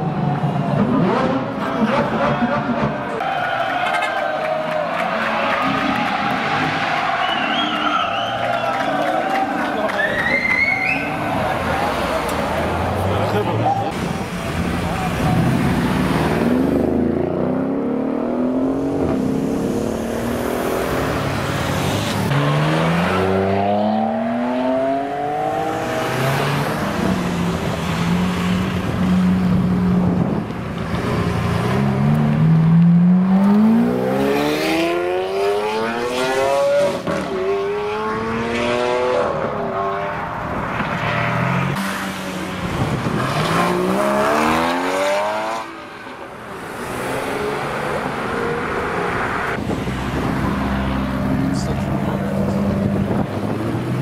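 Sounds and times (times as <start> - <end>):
car engines accelerating hard: 0.0 - 54.0.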